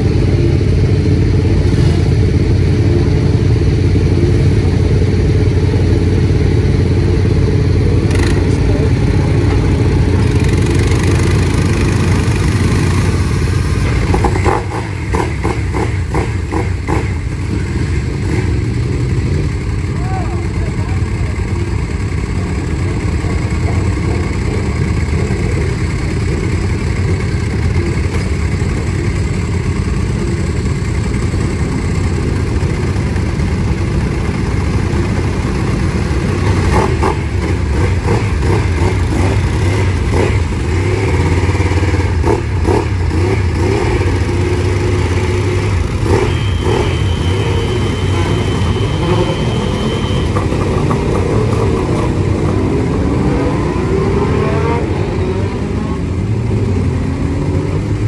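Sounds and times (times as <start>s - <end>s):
motorcycle engine idling: 0.0s - 52.9s.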